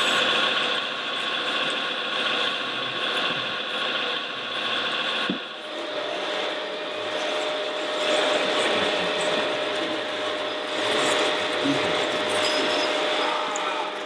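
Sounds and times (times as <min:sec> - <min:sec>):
model drive and gears whining: 0:00.0 - 0:14.0.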